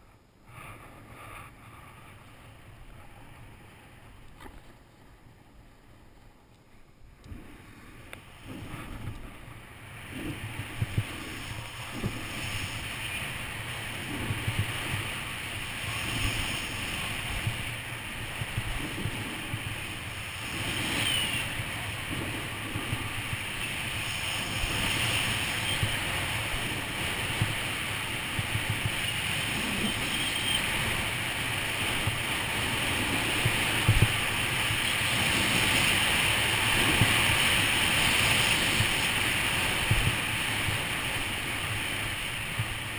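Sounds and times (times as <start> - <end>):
wind on microphone: 7.1 - 42.9
snowboard hissing on snow: 7.4 - 42.9.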